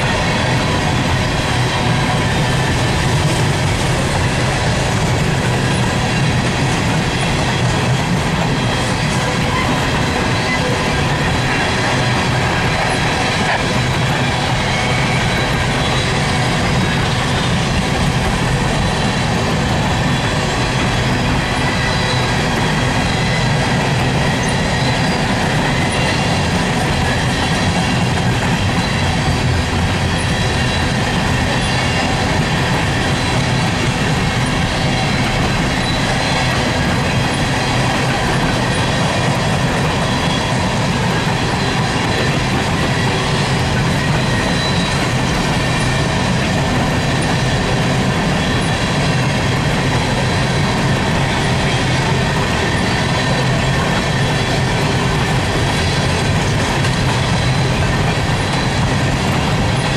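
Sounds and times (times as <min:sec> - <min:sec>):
freight train wheels rolling on rails: 0:00.0 - 0:59.9.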